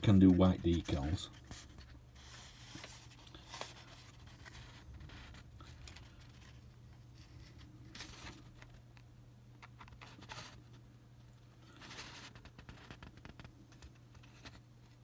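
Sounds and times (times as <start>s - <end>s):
paper sheet rustling and scraping: 0.0s - 8.8s, 9.7s - 10.8s, 11.7s - 15.0s
steady low hum: 0.0s - 15.0s.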